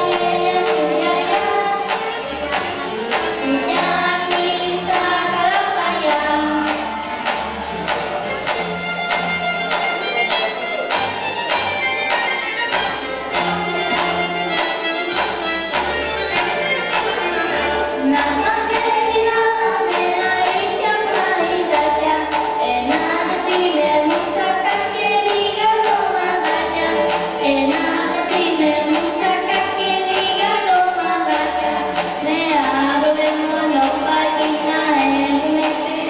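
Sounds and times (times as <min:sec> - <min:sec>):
children singing: 0:00.0 - 0:08.4, 0:12.2 - 0:36.0
music with steady beat: 0:00.0 - 0:36.0.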